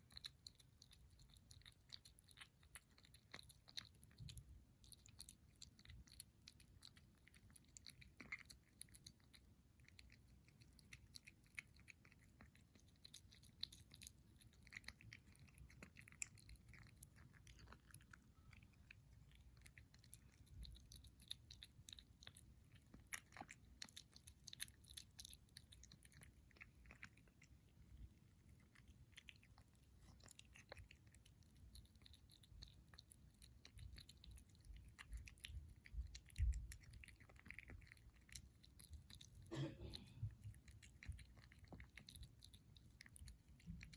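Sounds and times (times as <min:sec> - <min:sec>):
kitten chewing food: 0:00.0 - 0:43.9.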